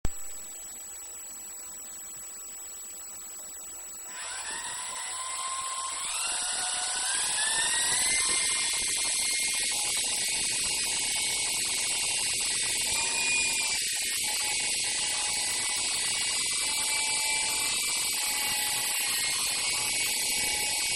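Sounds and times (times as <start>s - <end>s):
rc helicopter motor whine: 3.8s - 20.9s.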